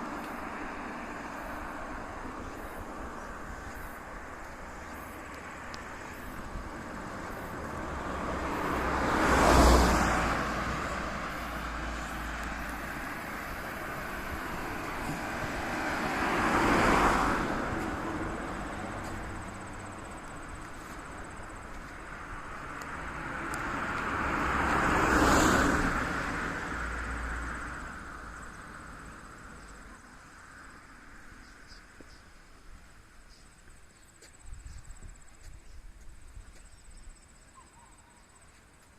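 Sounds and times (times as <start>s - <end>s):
cars driving past: 0.0s - 33.4s.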